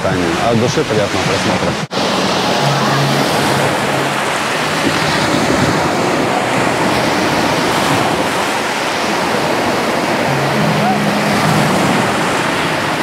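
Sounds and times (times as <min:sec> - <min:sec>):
small waves breaking on sand: 0:00.2 - 0:13.0.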